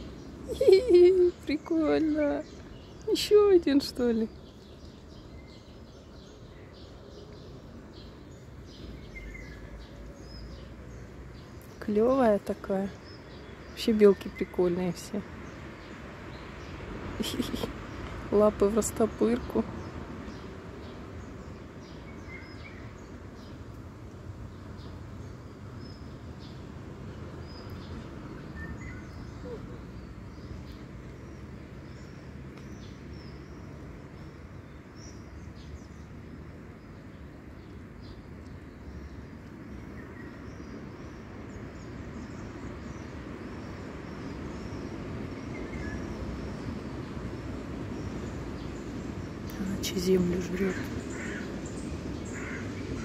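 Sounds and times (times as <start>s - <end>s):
low background noise: 0.0s - 53.0s
small birds chirping: 0.0s - 53.0s.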